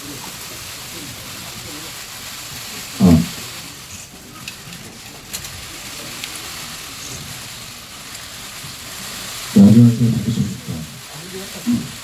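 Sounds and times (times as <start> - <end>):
hushed room hiss: 0.0 - 12.0.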